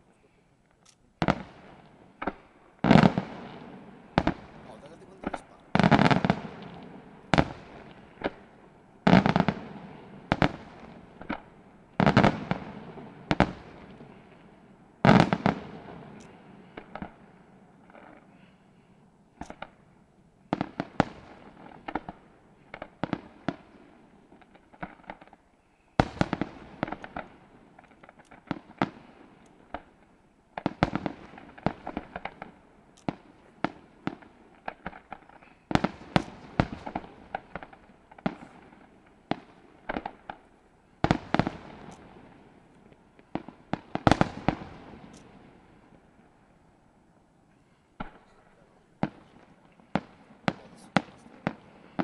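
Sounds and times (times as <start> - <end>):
firework bursts with crackling: 1.2 - 19.9, 20.5 - 46.5, 47.5 - 52.0.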